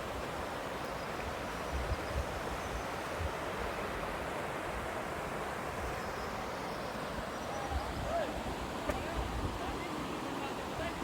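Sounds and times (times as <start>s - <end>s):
mountain river rushing: 0.0s - 11.0s.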